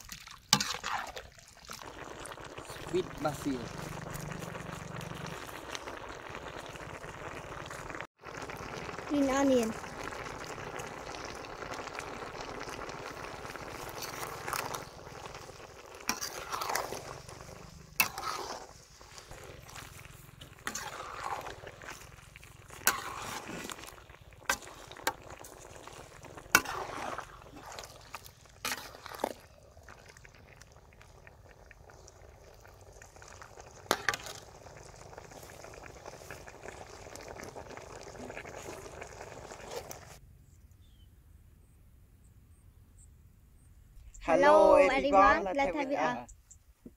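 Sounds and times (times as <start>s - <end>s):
liquid simmering and bubbling: 0.0s - 40.2s.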